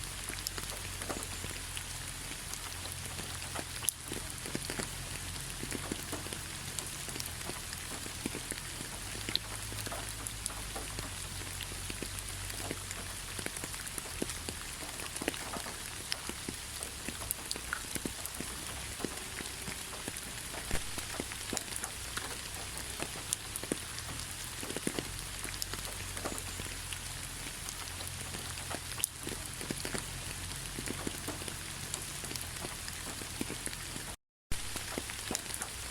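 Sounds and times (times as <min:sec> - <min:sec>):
rain drops ticking on a surface: 0:00.0 - 0:35.9.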